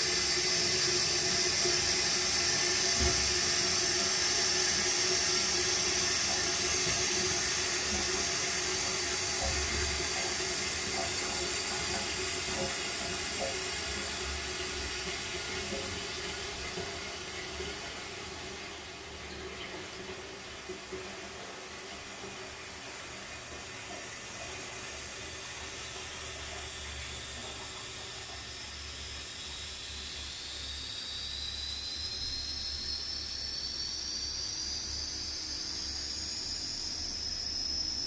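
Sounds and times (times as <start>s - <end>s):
toilet flush water hissing: 0.0s - 38.0s.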